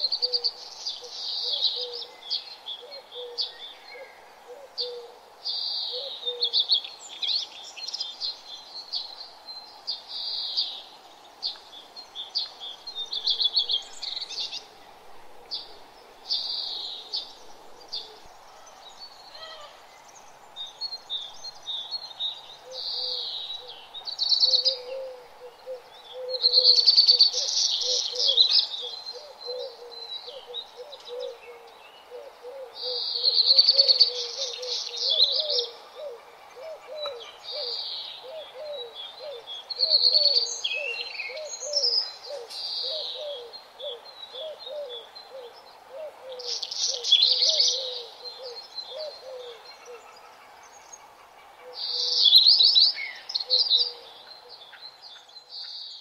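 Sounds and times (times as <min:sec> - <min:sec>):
birds singing and chirping: 0:00.0 - 0:56.0.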